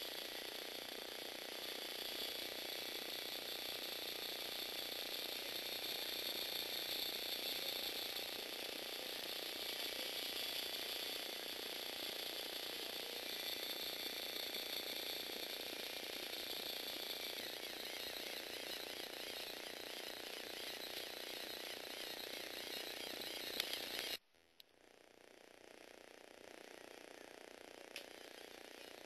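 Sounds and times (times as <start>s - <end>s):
motor and gears whirring: 0.0s - 24.2s, 25.6s - 29.0s.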